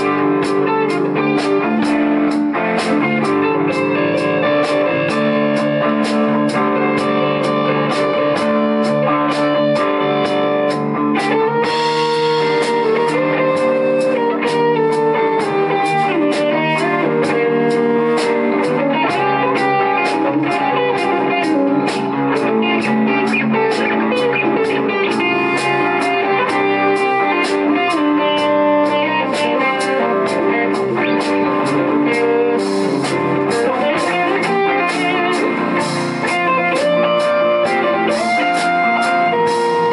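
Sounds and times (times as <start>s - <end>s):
live band playing instrumental: 0.0s - 39.9s.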